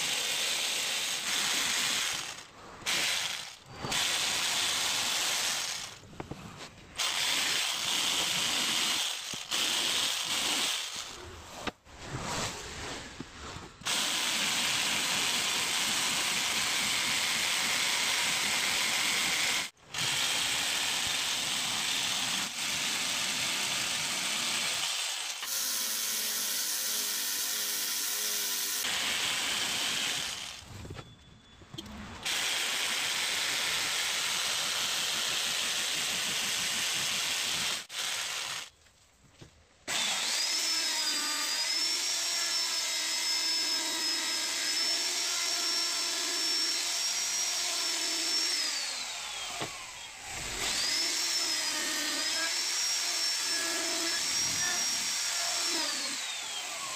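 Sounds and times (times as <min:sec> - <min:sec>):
jigsaw cutting wood: 0:00.0 - 0:06.1, 0:07.0 - 0:11.8, 0:13.8 - 0:30.7, 0:32.2 - 0:38.8, 0:39.9 - 0:56.9.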